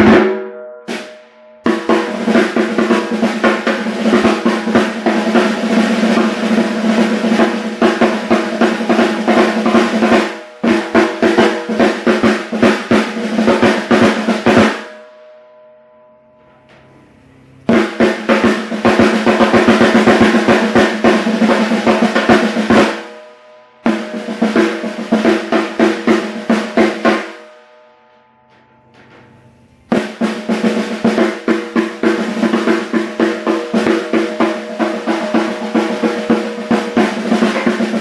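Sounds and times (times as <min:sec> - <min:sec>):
snare drum strokes and rolls: 0:00.0 - 0:15.0, 0:17.7 - 0:23.2, 0:23.8 - 0:27.5, 0:29.9 - 0:38.0.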